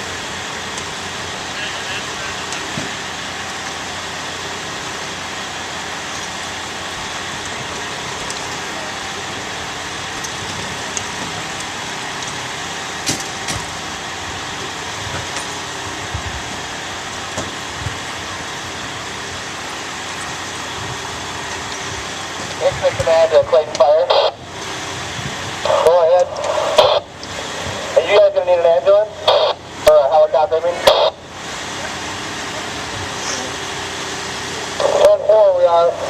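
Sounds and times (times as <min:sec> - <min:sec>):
vehicle engines running: 0:00.0 - 0:36.0.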